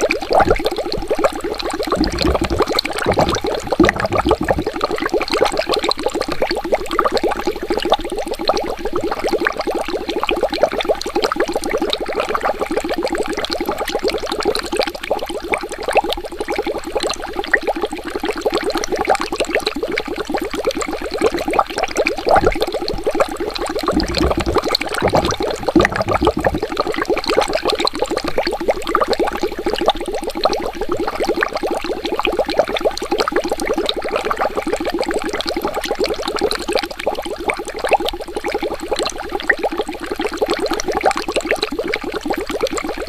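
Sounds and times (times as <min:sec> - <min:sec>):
deeper water gurgles: 0:00.0 - 0:43.0
water bubbling: 0:00.1 - 0:18.6, 0:19.6 - 0:43.0.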